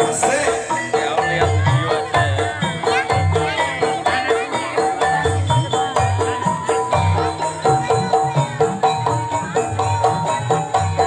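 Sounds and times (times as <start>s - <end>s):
gamelan metal-keyed instruments: 0.0s - 11.0s
low drum beat: 0.0s - 11.0s.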